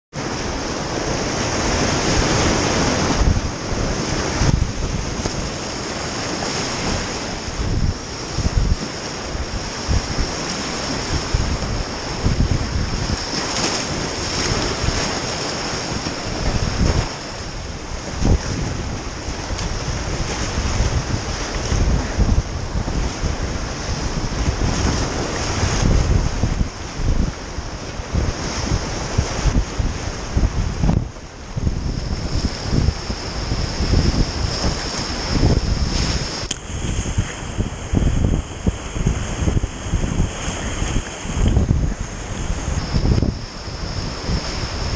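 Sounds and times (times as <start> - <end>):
wind buffeting microphone: 0.1 - 44.9.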